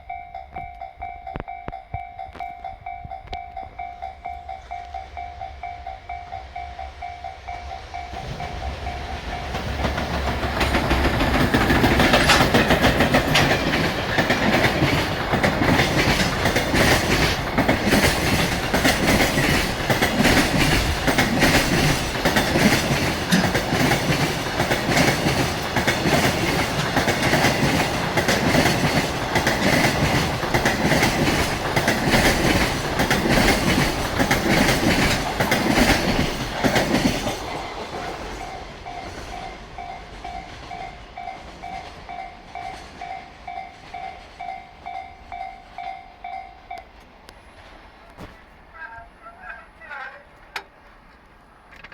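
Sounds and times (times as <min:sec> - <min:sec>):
train wheels clattering: 0:00.4 - 0:48.6.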